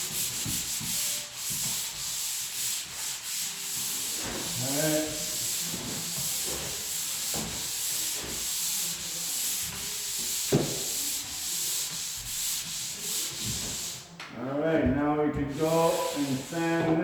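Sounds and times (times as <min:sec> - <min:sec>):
hand sanding drywall: 0:00.0 - 0:14.1, 0:15.4 - 0:17.0.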